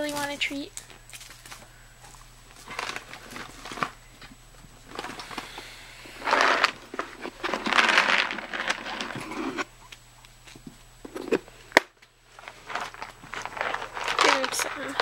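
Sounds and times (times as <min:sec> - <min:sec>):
plastic bag crinkling: 0:00.0 - 0:09.6, 0:12.3 - 0:15.0.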